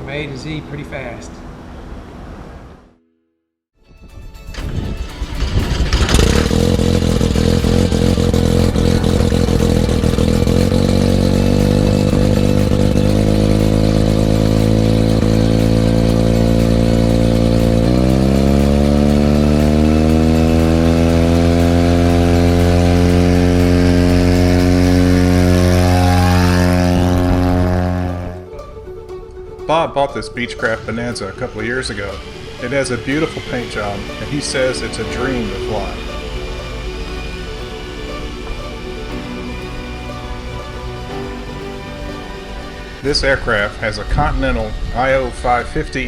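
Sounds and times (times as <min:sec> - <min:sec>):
rotary turbo engine droning: 0:04.6 - 0:28.8, 0:30.4 - 0:46.0.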